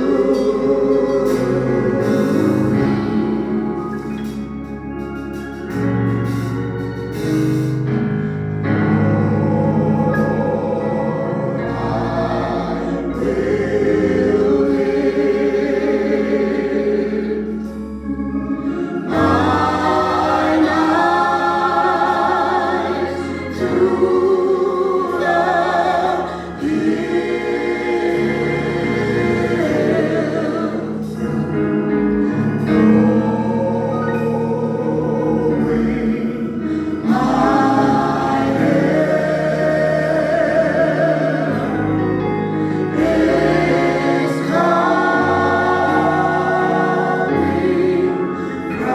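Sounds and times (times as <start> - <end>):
choir singing gospel music: 0.0 - 48.9
instrumental accompaniment: 0.0 - 48.9.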